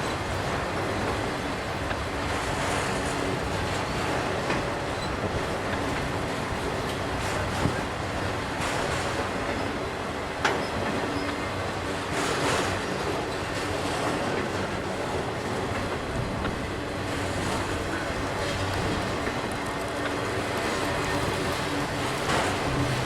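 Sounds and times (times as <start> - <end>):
train wheels clicking over rail joints: 0.0 - 23.0.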